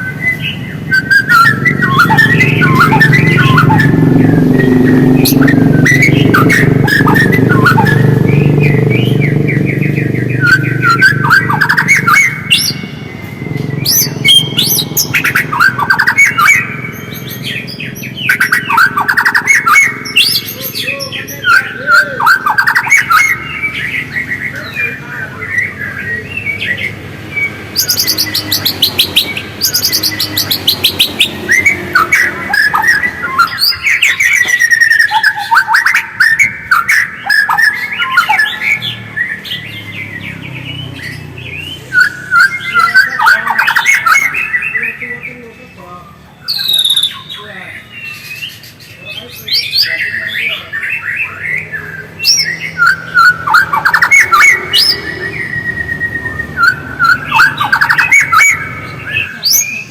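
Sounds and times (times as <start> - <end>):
songbird whistling and trilling: 0.0 - 59.9.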